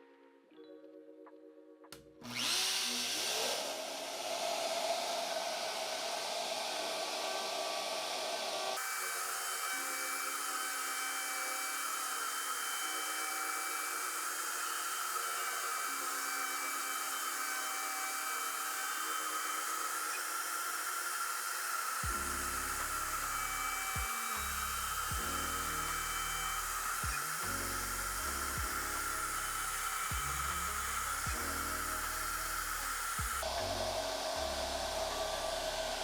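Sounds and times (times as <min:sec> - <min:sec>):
router spindle whining: 0:02.2 - 0:36.0.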